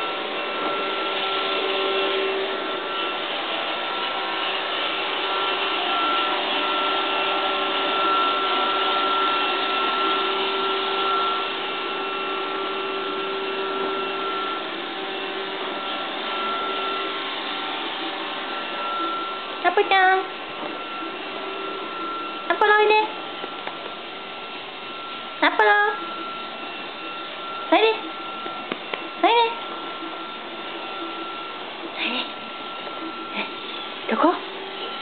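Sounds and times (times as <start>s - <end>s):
robot vacuum cleaner whirring: 0.0s - 35.0s.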